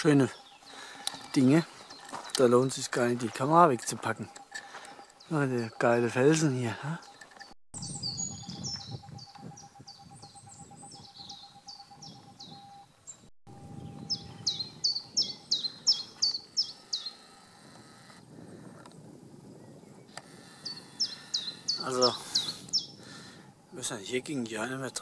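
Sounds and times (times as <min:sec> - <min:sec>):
songbird chirping: 0:00.0 - 0:18.2, 0:19.5 - 0:25.0.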